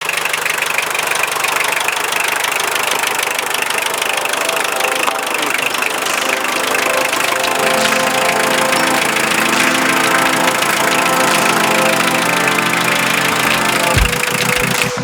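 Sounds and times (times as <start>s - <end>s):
engine running with fast chatter: 0.0s - 15.0s.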